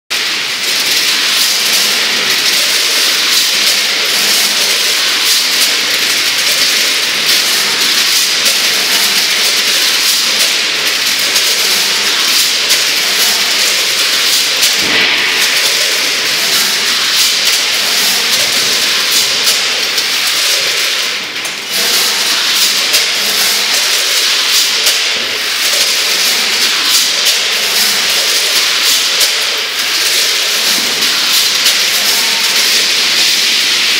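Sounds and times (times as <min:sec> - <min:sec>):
packing machine hissing: 0:00.1 - 0:33.9.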